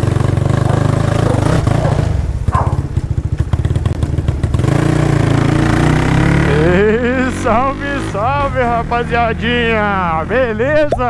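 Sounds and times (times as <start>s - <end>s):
motorcycle engine lumpy idle: 0.0s - 10.8s.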